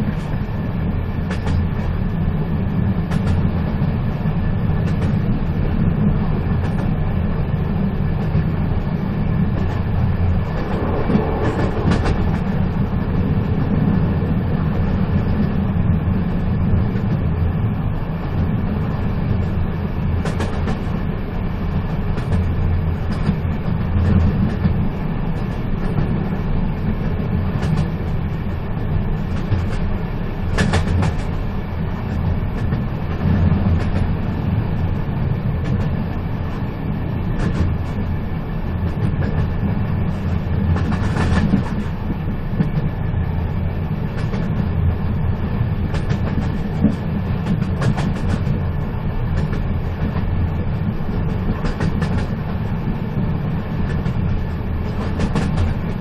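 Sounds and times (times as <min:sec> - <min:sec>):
train clicks and clacks: 0:00.0 - 0:56.0
train rumbling: 0:00.0 - 0:56.0.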